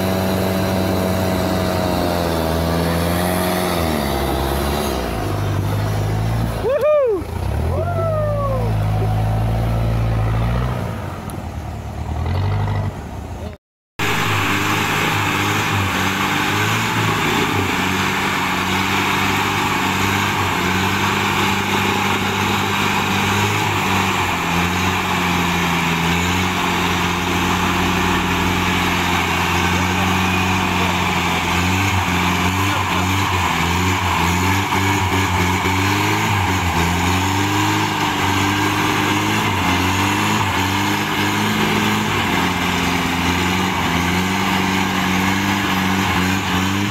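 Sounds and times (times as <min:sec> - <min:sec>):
engine straining up slope: 0:00.0 - 0:46.9
off-road engines revving: 0:00.0 - 0:46.9.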